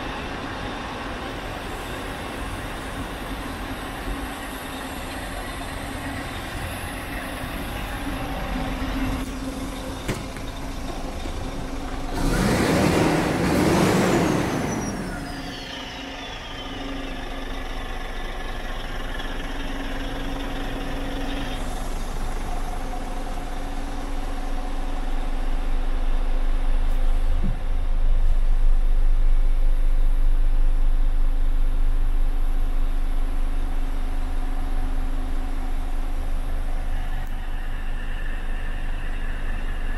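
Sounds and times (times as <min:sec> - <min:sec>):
diesel engine idling: 0:01.2 - 0:39.9.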